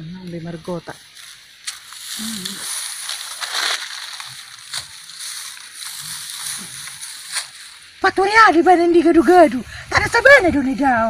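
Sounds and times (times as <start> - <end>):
leafy plants rustling: 0.0 - 11.0.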